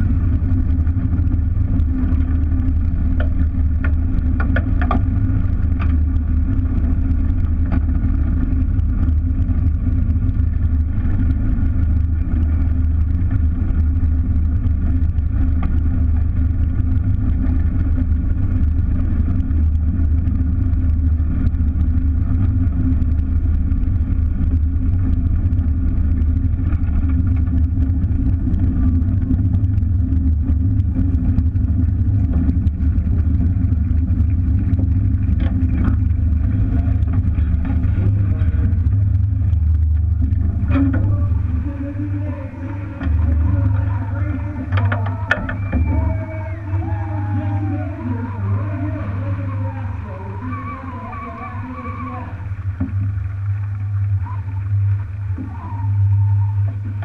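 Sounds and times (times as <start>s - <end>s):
propeller plane engine rumble: 0.0s - 57.0s.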